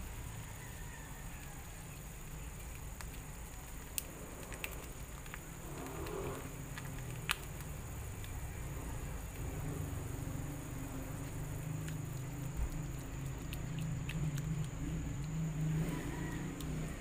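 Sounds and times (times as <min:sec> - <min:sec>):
gas burner low rumble: 0:00.0 - 0:17.0
sharp ticks: 0:01.9 - 0:08.5, 0:09.1 - 0:17.0.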